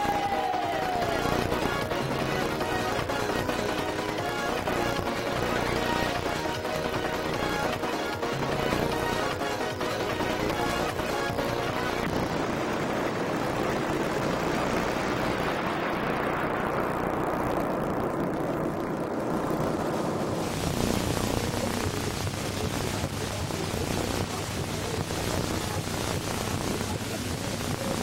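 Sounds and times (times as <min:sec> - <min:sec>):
electronic whoosh: 0:00.0 - 0:22.8
low hum: 0:00.0 - 0:28.0.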